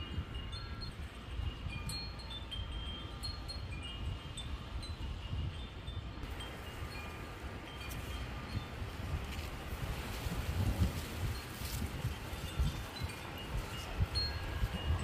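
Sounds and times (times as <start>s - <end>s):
wind chimes tinkling: 0.0s - 15.0s
wind rumble on microphone: 0.0s - 15.0s.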